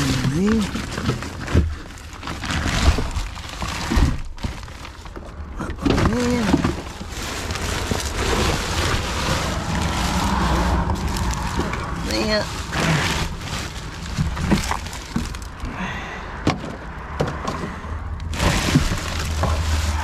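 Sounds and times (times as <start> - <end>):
items knocking: 0.0 - 15.7, 16.4 - 20.0
plastic bags crinkling: 0.0 - 15.8, 18.3 - 20.0.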